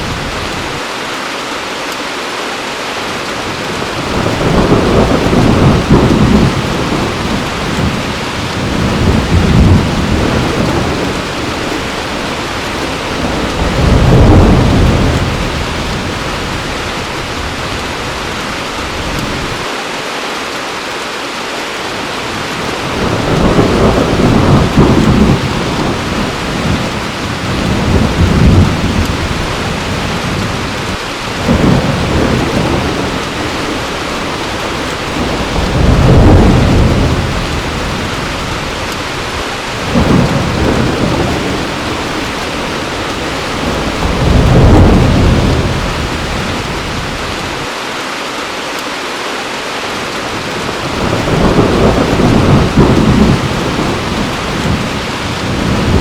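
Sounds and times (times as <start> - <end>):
thunder rumbling: 0.0 - 0.8, 3.4 - 19.6, 22.3 - 47.7, 50.3 - 56.0
heavy rain falling: 0.0 - 56.0.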